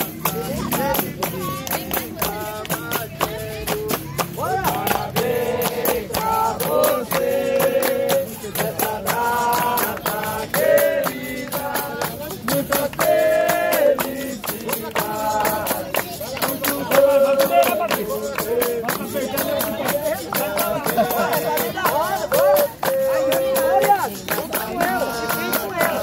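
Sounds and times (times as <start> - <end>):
berimbau and tambourines: 0.0 - 26.0
hand clapping: 0.0 - 26.0
person singing: 0.0 - 26.0.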